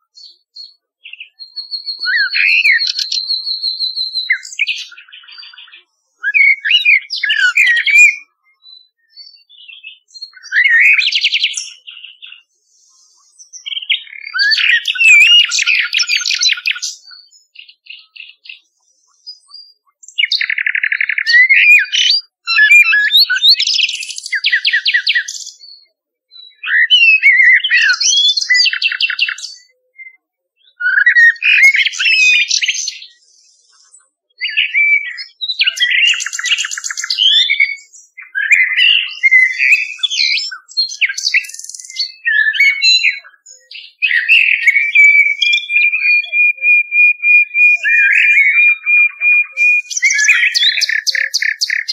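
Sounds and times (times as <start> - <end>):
blackbird song: 0.0 - 51.9
nightingale song: 0.0 - 51.9.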